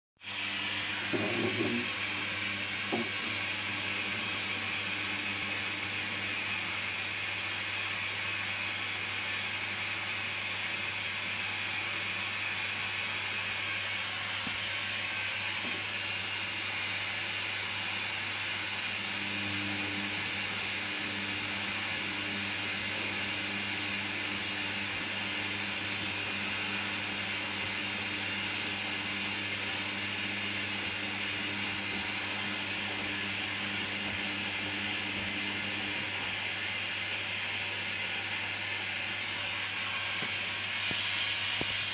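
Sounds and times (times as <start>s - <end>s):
washing machine drum hum and hiss: 0.2s - 41.9s.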